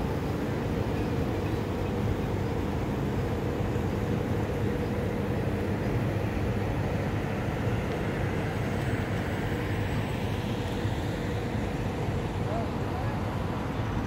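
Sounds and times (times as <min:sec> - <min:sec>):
boat engine rumble: 0:00.0 - 0:14.0.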